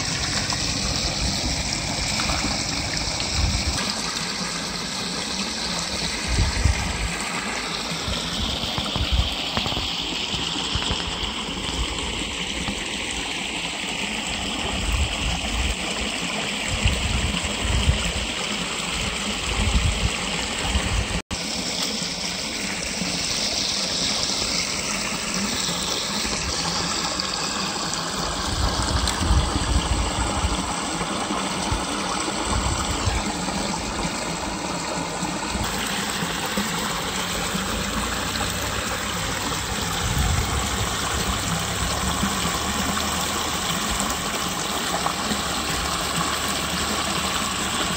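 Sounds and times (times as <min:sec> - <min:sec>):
water rushing over a weir: 0:00.0 - 0:47.9.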